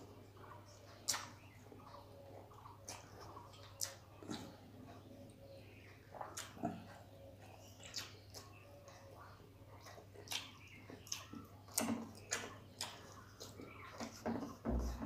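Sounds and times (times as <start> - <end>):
fingers squishing food: 0.0 - 4.6, 5.8 - 7.0, 7.6 - 15.0
wet chewing sounds: 0.0 - 15.0.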